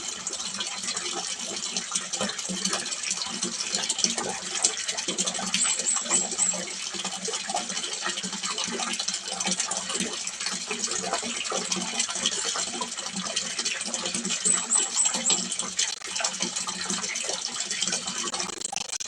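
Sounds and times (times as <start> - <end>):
water splashing into a pond: 0.0 - 19.0.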